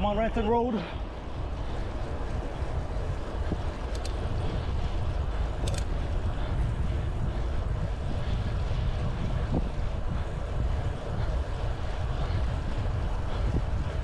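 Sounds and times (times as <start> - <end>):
road noise: 0.0 - 14.0
wind buffeting microphone: 0.0 - 14.0.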